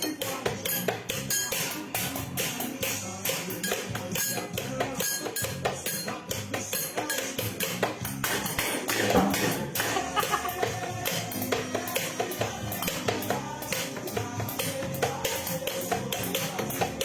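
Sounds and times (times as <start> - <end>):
music with fast percussive beat: 0.0 - 17.0.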